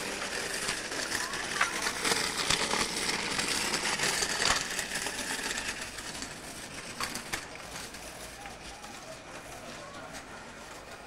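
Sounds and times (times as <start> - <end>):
bicycle rattling on pavement: 0.0 - 11.0.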